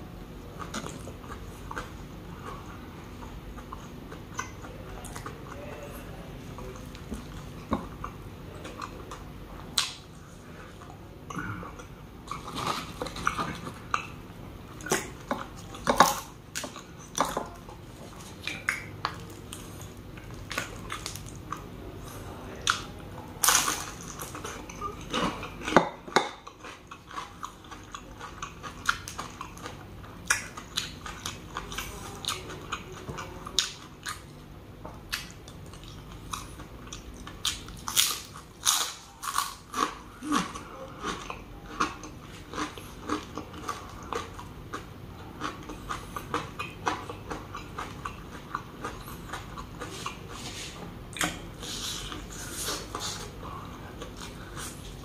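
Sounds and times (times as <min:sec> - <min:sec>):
man chewing food: 0:00.0 - 0:55.0.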